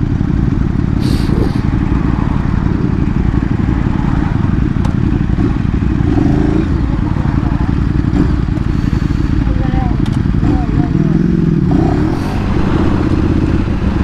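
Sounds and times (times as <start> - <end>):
motorcycle engine running: 0.0 - 14.0
wind buffeting microphone: 1.0 - 8.7, 9.4 - 14.0.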